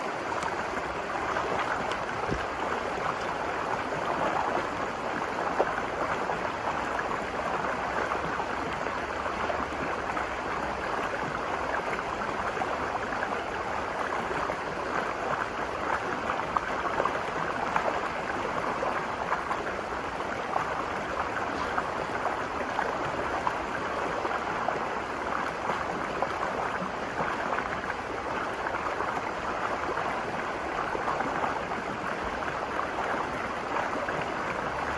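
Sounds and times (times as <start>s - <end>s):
river flowing over rocks: 0.0s - 34.9s.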